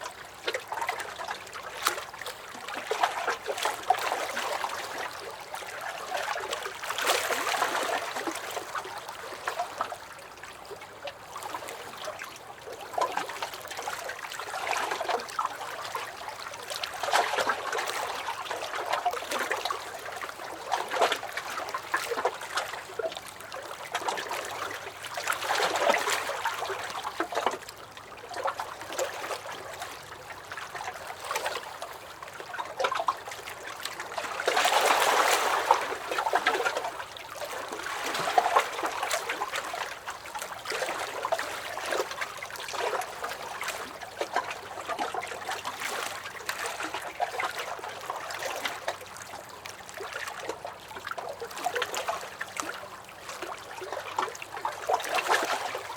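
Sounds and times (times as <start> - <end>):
waves lapping against a dock: 0.0 - 55.9.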